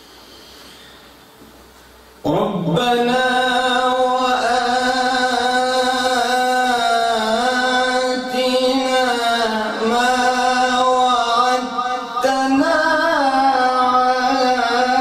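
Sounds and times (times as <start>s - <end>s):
man chanting recitation: 2.2s - 15.0s.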